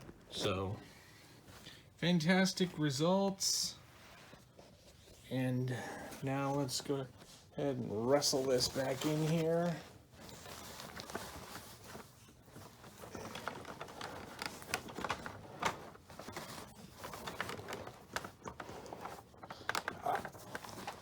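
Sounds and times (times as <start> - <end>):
paper rustling and crinkling: 3.7 - 21.0.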